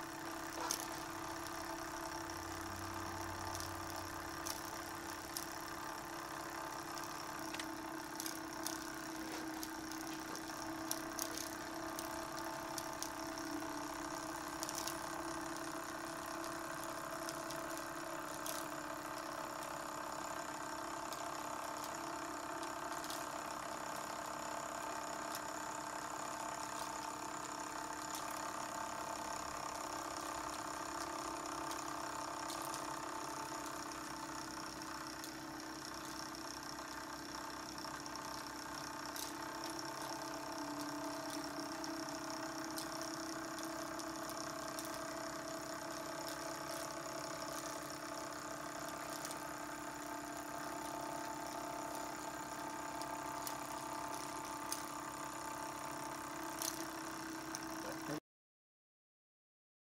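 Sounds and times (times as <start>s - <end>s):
miniature steam engine ticking: 0.0s - 58.2s.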